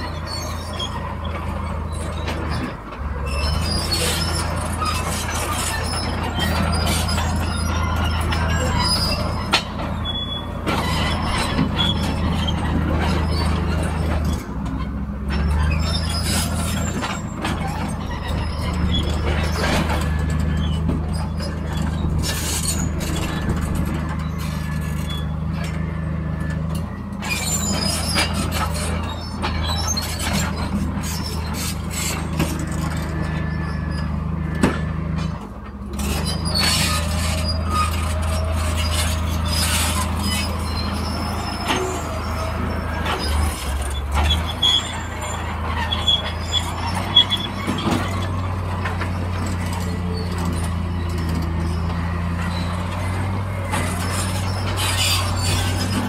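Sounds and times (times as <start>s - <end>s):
bulldozer diesel engine running: 0.0s - 56.0s
steel tracks squealing and clanking: 0.0s - 56.0s.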